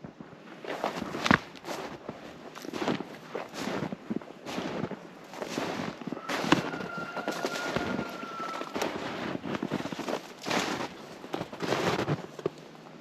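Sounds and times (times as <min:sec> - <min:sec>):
footsteps crunching on snow: 0:00.0 - 0:13.0.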